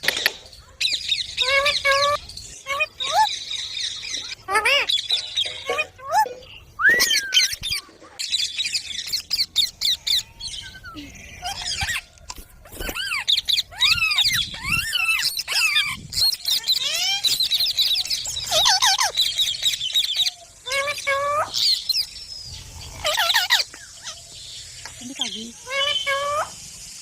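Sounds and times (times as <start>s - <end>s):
parakeets chattering and squawking: 0.0s - 27.0s.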